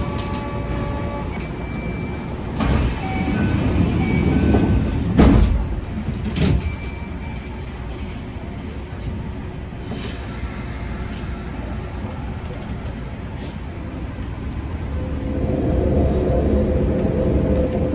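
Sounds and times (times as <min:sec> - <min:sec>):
train low rumble: 0:00.0 - 0:17.9.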